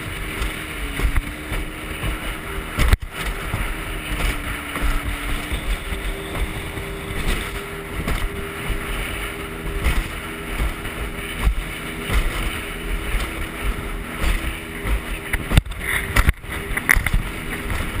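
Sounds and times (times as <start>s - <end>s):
boat motor running: 0.0s - 18.0s
wind buffeting microphone: 0.0s - 18.0s
sharp knocks: 0.3s - 8.9s, 9.6s - 18.0s.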